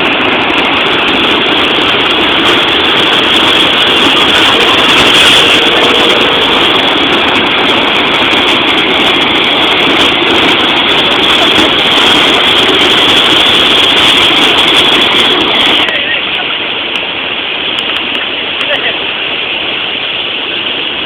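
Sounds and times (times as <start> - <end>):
floodwater rushing in river: 0.0 - 21.0.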